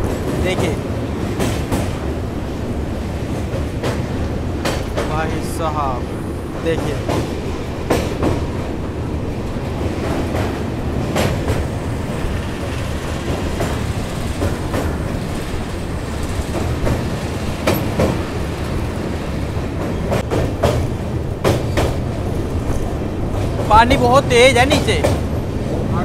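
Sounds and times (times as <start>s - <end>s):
rail joint clacks: 0.0s - 26.0s
train wheels rumbling on rails: 0.0s - 26.0s.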